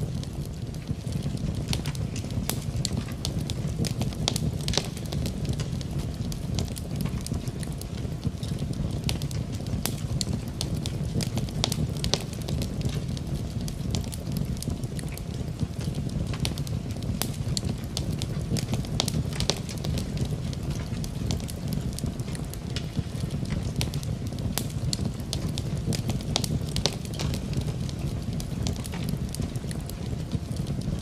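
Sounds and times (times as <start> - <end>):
rain: 0.0 - 31.0
wood fire crackling: 0.0 - 31.0.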